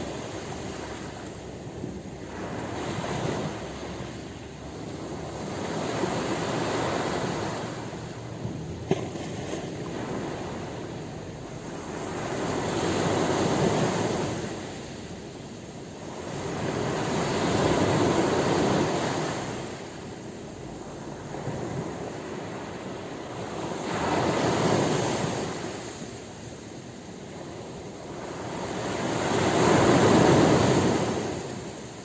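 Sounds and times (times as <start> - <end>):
ocean waves rolling in: 0.0 - 32.0.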